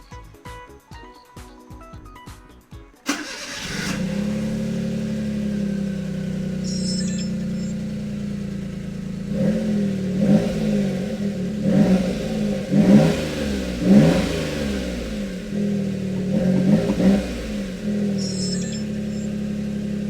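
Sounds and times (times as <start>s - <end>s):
car engine revving: 3.1s - 20.0s.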